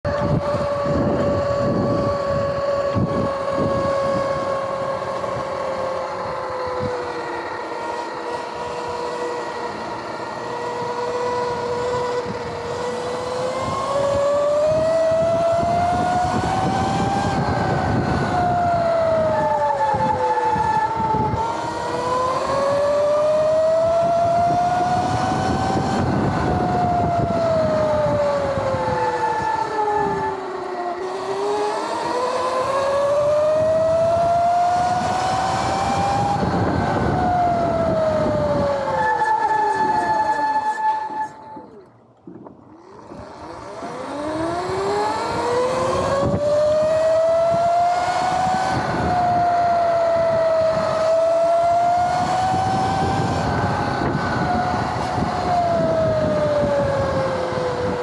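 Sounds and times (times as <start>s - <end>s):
tyre and wind noise: 0.0s - 31.2s, 31.9s - 51.2s, 51.8s - 58.0s
electric motor and chain whining: 0.1s - 58.0s.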